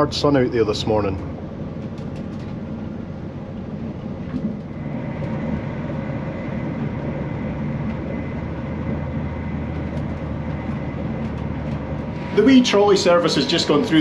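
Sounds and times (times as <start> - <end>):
faint steady whine: 0.0 - 14.0
train carriage low rumble: 0.0 - 14.0.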